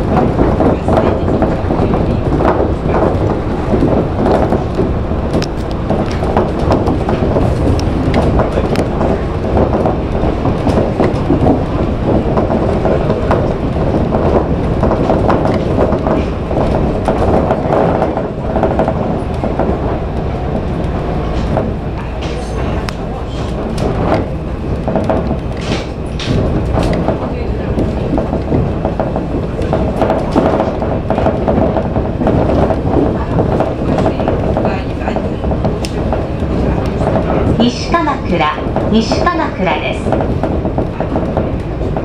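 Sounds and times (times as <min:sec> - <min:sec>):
monorail car running noise: 0:00.0 - 0:42.0
short knocks and rattles: 0:00.0 - 0:42.0.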